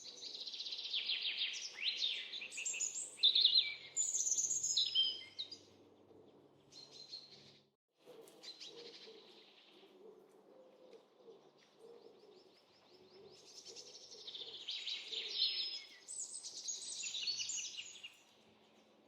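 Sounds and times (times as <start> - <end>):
songbirds chirping and singing: 0.0 - 7.7, 10.9 - 19.0.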